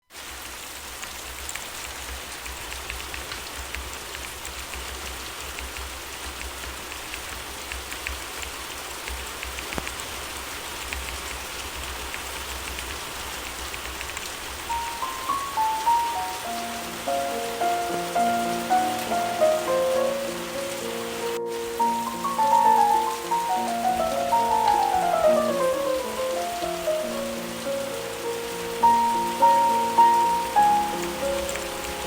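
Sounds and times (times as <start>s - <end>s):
gentle rain hissing: 0.0s - 32.0s
raindrops ticking on surface: 0.1s - 32.0s.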